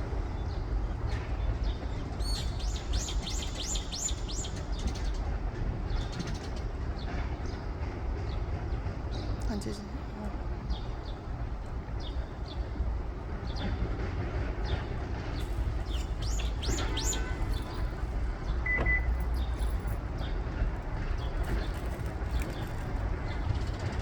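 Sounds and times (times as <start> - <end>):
small birds chirping: 1.4 - 24.0.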